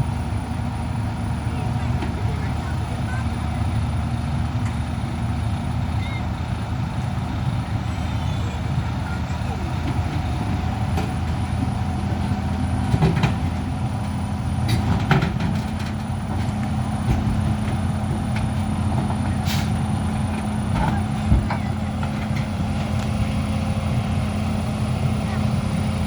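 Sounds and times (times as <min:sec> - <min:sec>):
diesel machinery humming: 0:00.0 - 0:26.0.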